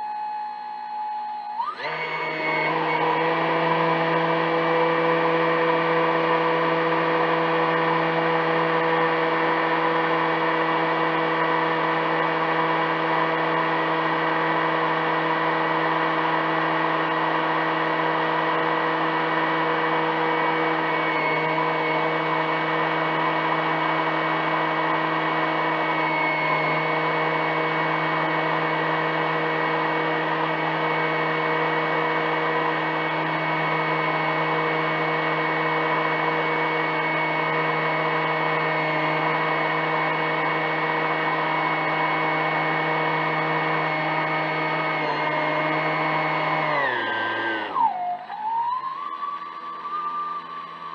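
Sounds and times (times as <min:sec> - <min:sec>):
model boat motor whine: 0:00.0 - 0:50.9.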